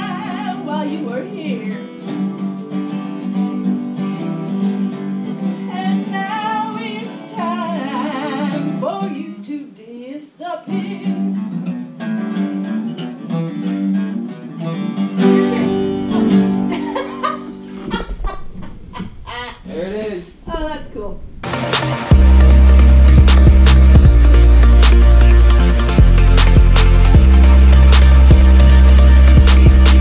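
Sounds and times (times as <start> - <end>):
acoustic guitar playing: 0.0 - 9.4, 10.6 - 19.6, 21.4 - 30.0.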